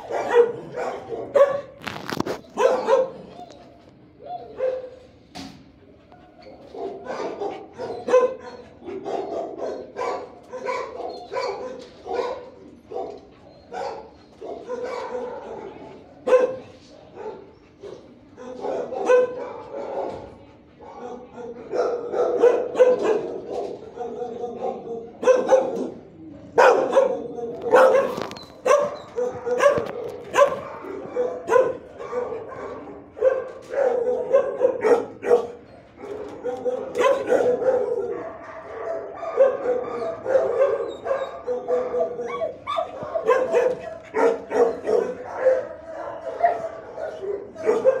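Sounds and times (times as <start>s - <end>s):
dogs barking: 0.0s - 5.1s, 6.0s - 48.0s.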